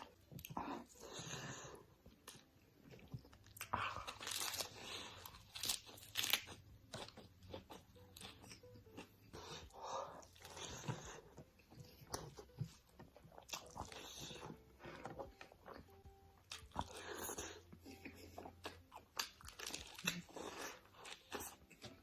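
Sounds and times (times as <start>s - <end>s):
crunchy food chewing: 2.0s - 22.0s.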